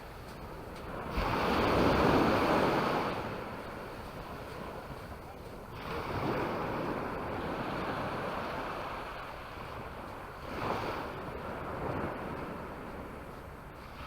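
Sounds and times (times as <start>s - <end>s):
sea waves washing onto shore: 0.0s - 14.0s
wind rumbling on microphone: 0.0s - 14.0s.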